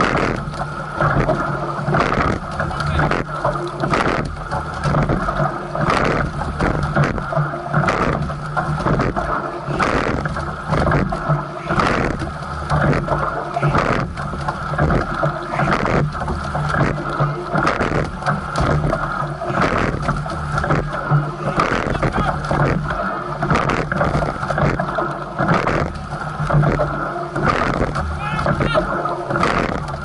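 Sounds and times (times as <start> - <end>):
oars knocking in oarlocks: 0.0 - 30.0
steady low hum: 0.0 - 30.0
water rushing past hull: 0.0 - 30.0
wind: 0.0 - 30.0.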